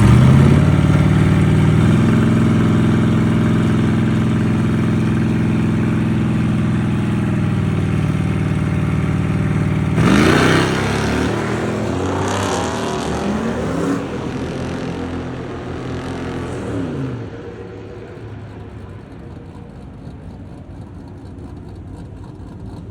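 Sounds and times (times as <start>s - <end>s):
race car engines idling: 0.0s - 22.9s
race car engines revving: 0.0s - 22.9s.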